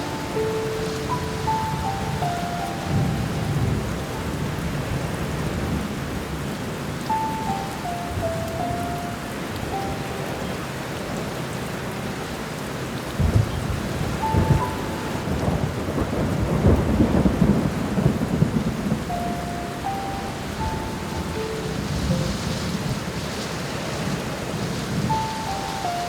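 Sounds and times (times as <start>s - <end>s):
thunder rumble: 0.0s - 11.9s, 12.8s - 26.0s
soft piano notes: 0.0s - 26.0s
steady rain: 0.0s - 26.0s.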